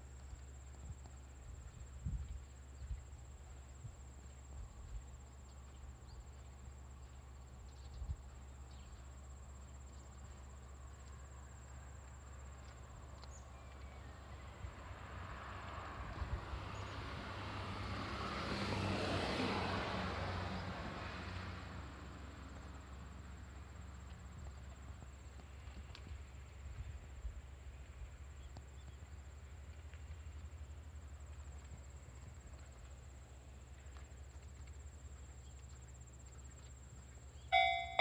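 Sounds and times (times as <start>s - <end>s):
diesel railcar approaching: 0.0s - 25.7s, 29.2s - 38.0s.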